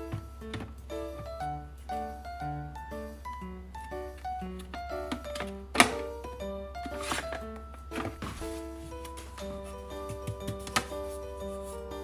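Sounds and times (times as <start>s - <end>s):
light background melody: 0.0s - 12.0s.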